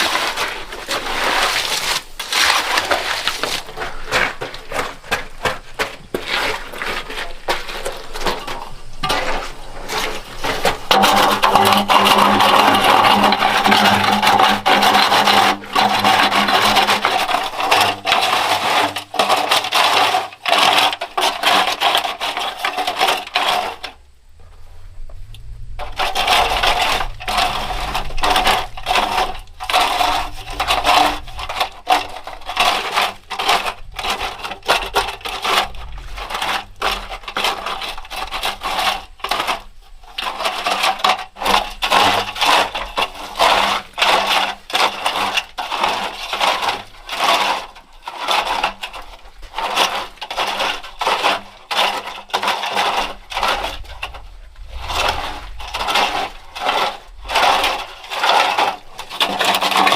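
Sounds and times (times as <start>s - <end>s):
hand tool scraping gritty surface: 0.0s - 24.7s, 25.8s - 59.9s.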